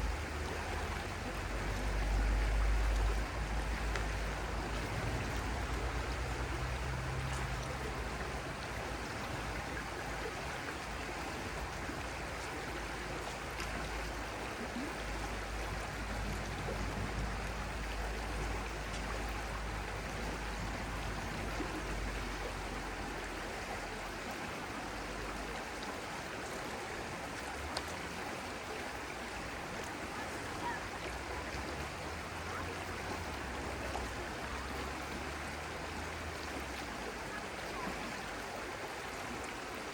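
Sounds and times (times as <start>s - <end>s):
stream rushing water: 0.0s - 39.9s.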